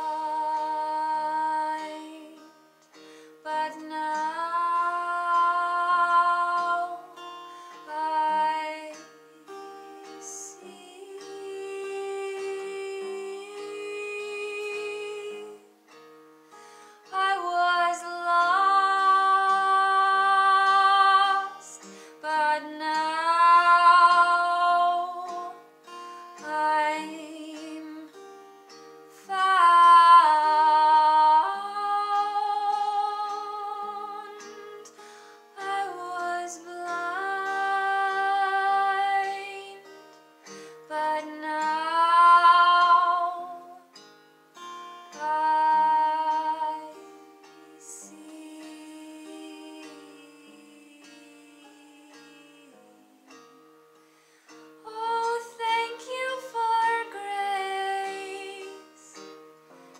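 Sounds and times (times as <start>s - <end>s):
woman singing wordless notes: 0.0s - 16.0s, 17.0s - 44.0s, 44.6s - 53.6s, 54.8s - 59.5s
acoustic guitar: 0.0s - 59.9s.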